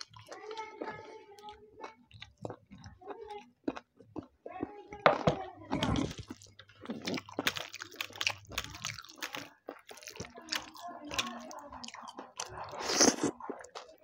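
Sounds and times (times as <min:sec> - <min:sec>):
wet chewing and mouth smacks: 0:00.0 - 0:04.7, 0:05.7 - 0:14.0.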